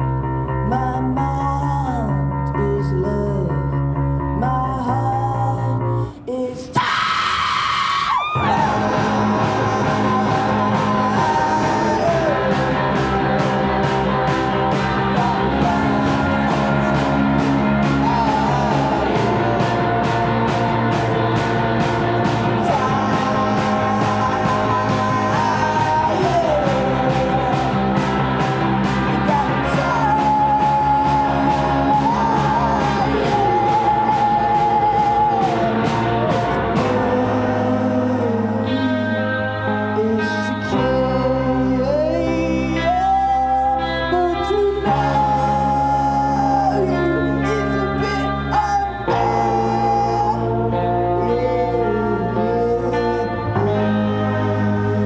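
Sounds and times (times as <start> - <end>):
sung vocals: 0.0 - 55.0
rock band playing: 6.7 - 55.0.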